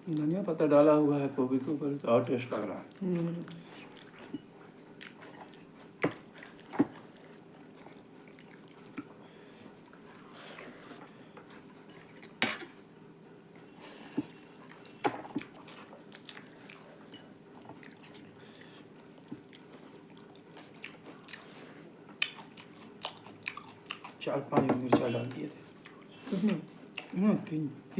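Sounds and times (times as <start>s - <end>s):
people eating clicks and smacks: 2.5s - 27.6s.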